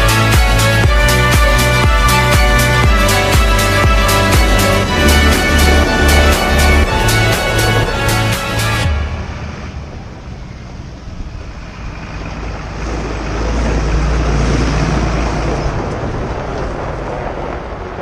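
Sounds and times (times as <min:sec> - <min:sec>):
farm machinery engine rumbling: 0:00.0 - 0:18.0.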